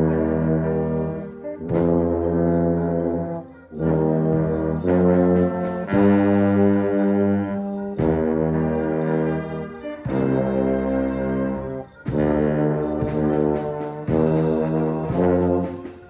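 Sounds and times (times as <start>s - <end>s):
tuba playing low notes: 0.0s - 16.0s.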